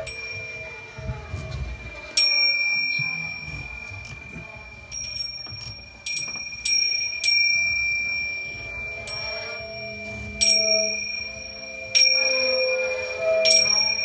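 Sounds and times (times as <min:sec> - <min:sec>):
sharp bell-like attacks: 0:00.0 - 0:14.0
sustained low held notes: 0:00.0 - 0:14.0.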